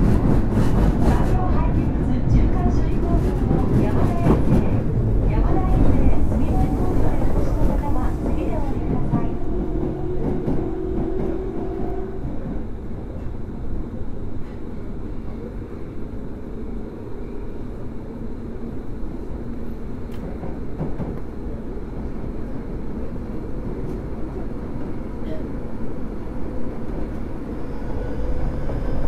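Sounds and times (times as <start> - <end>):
train equipment humming: 0.0 - 29.0.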